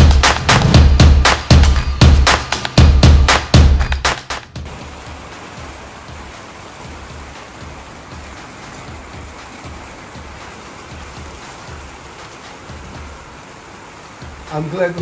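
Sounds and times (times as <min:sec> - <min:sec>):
rain on a plastic roof: 0:00.0 - 0:15.0.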